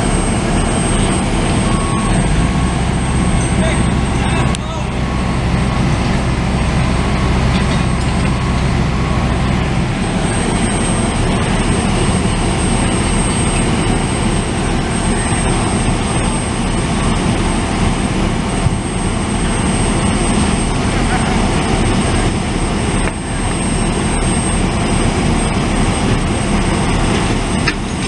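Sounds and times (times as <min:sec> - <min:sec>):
thin high whine: 0:00.0 - 0:05.4, 0:07.6 - 0:28.0
truck engine rumbling: 0:00.0 - 0:28.0.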